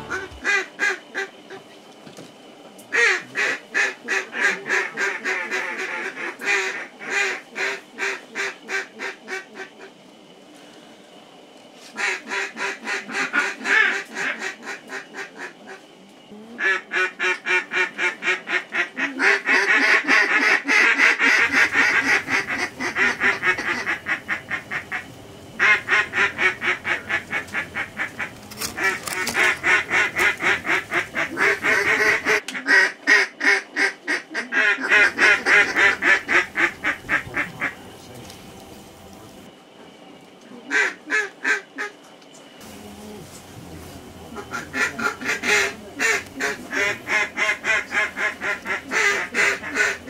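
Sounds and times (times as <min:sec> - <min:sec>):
duck calls quacking: 0:00.0 - 0:01.6, 0:02.9 - 0:10.0, 0:11.9 - 0:15.8, 0:16.6 - 0:38.2, 0:40.7 - 0:42.0, 0:44.2 - 0:50.0.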